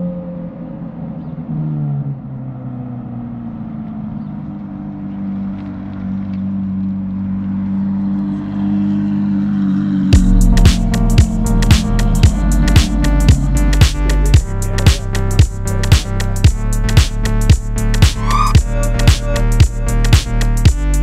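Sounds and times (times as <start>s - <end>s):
car engine at low revs: 0.0s - 18.9s.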